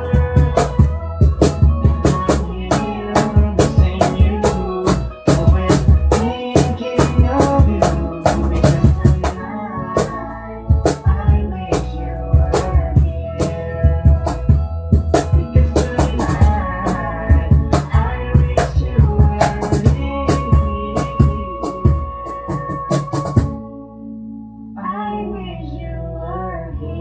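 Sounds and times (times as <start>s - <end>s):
drum kit steady beat: 0.0s - 9.4s, 10.0s - 23.5s
guitars and bass: 0.0s - 27.0s.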